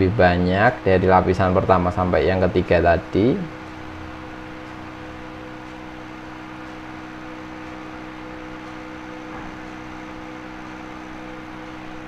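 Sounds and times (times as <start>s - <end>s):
constant tones: 0.0s - 12.0s
electric fan humming: 0.0s - 12.0s.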